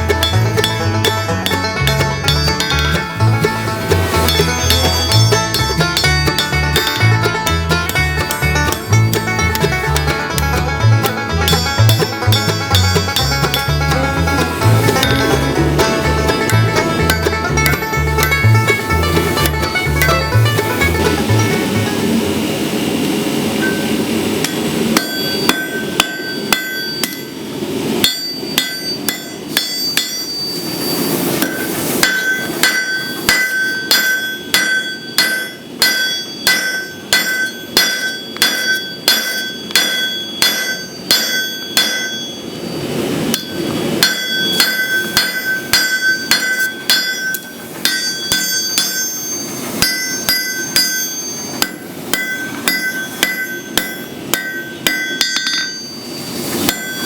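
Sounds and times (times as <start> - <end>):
anvil ringing: 0.0 - 22.0, 23.6 - 27.4, 28.0 - 42.7, 43.3 - 57.0
hammer striking steel on anvil: 0.0 - 22.0, 23.6 - 42.7, 43.3 - 57.0.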